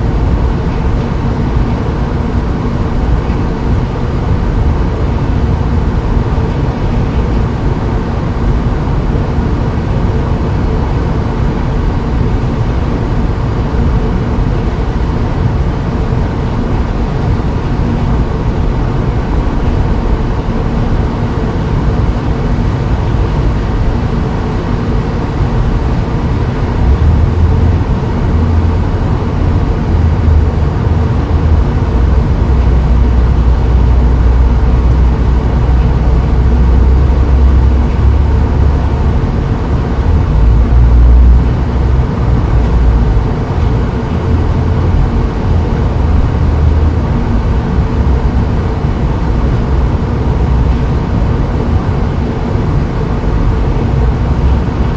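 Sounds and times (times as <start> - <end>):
faint hum: 0.0 - 54.9
vehicle engine and road noise: 0.0 - 54.9.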